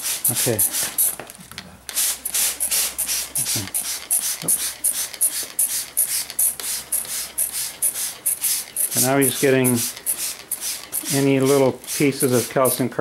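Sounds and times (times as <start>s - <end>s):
spray bottle squirting: 0.0s - 1.3s, 1.9s - 12.8s.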